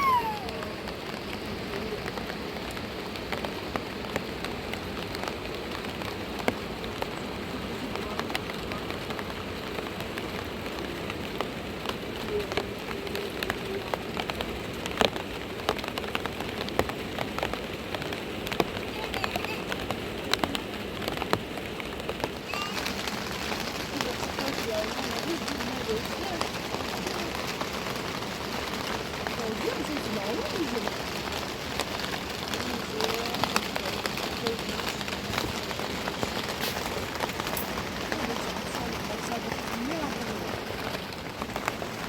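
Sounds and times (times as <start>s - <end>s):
rain drops tapping: 0.0s - 42.0s.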